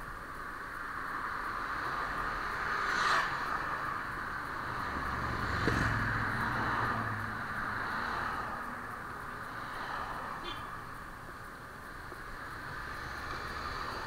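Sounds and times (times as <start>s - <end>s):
rushing traffic noise: 0.0s - 14.0s.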